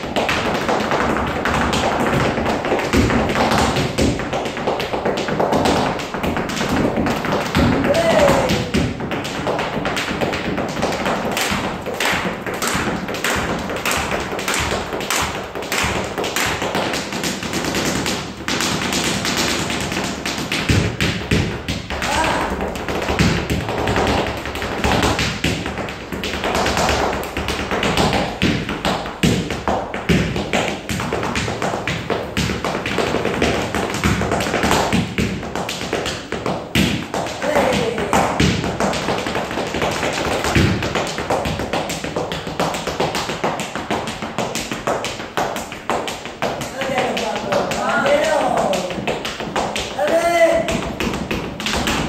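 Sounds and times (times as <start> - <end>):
dancer's shoes tapping on stage: 0.0 - 52.0.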